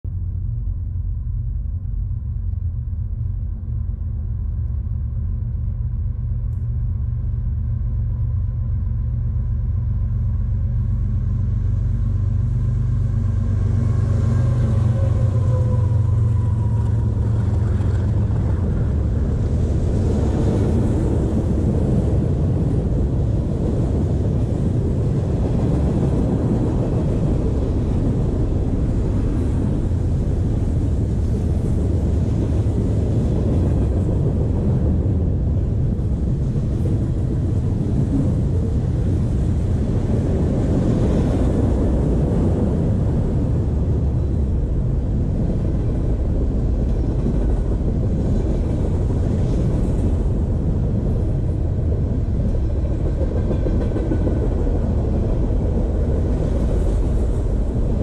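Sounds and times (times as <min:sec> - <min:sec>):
diesel locomotive drone: 0:00.0 - 0:58.0
freight car wheels rumbling on rails: 0:00.0 - 0:58.0.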